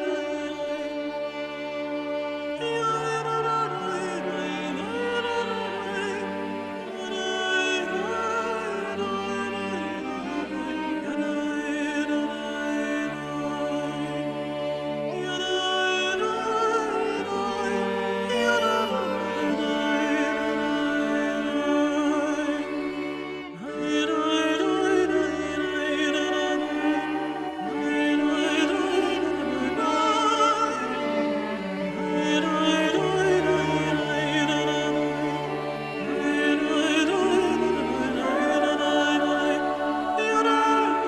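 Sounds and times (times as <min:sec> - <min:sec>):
opera-like vibrato melody: 0:00.0 - 0:41.0.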